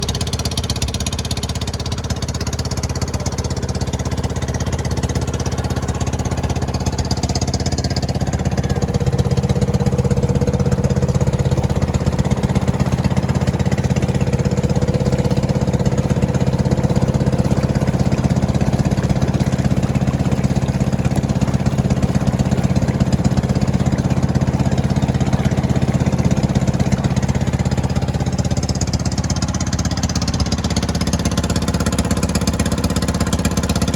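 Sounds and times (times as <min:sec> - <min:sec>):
engine running with pulsing beat: 0:00.0 - 0:33.9.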